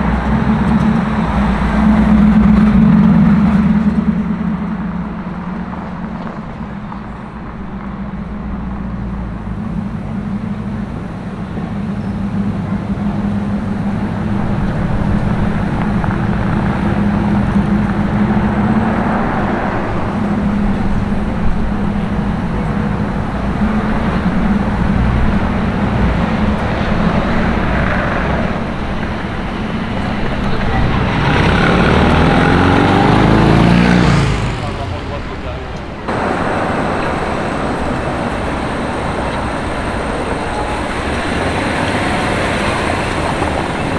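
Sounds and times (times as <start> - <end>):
road traffic noise: 0.0 - 43.9
vehicle engine running: 0.0 - 43.9.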